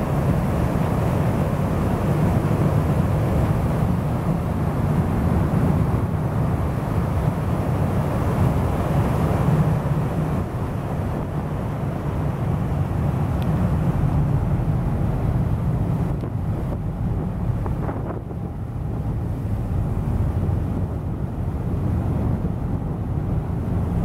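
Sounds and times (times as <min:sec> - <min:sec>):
low rumble of ship: 0:00.0 - 0:24.0
ship's wake rushing water: 0:00.0 - 0:24.0
wind on microphone: 0:00.0 - 0:24.0.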